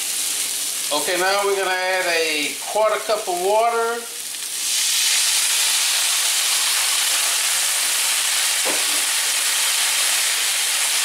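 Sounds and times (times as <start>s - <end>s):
water sizzling in hot pan: 0.0s - 11.0s.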